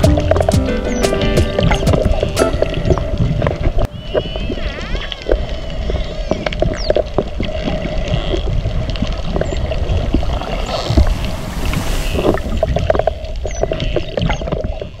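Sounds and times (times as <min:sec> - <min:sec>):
underwater hum and low rumble: 0:01.6 - 0:15.0.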